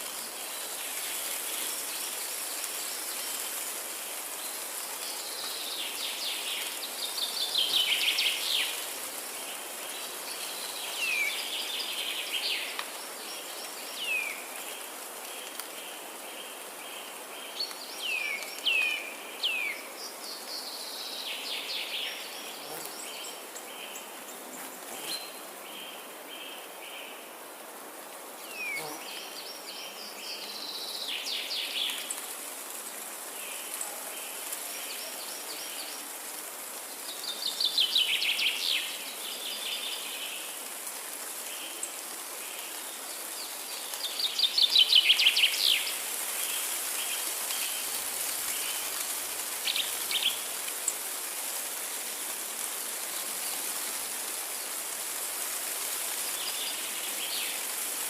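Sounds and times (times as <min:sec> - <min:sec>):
forest ambience hiss: 0:00.0 - 0:58.0.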